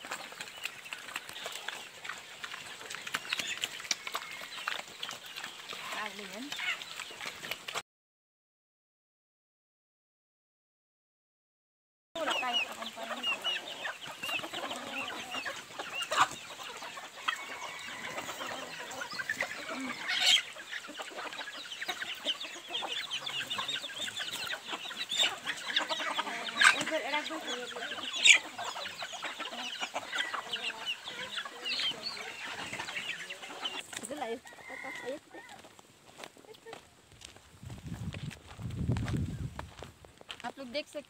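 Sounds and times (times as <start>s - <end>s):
hens and roosters clucking: 0.0s - 7.8s, 12.2s - 41.0s.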